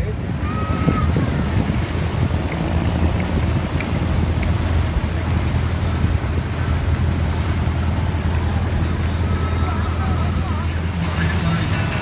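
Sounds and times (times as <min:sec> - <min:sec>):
boat engine droning: 0:00.0 - 0:12.0
water rushing: 0:00.0 - 0:12.0
wind buffeting microphone: 0:00.0 - 0:12.0.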